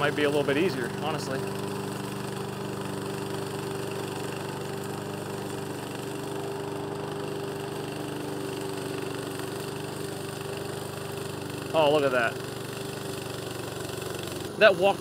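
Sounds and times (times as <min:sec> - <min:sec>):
mower gas engine running: 0:00.0 - 0:15.0.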